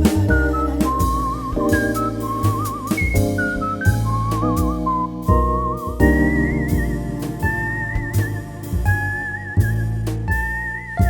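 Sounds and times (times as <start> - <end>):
background music with lead melody: 0.0 - 11.0.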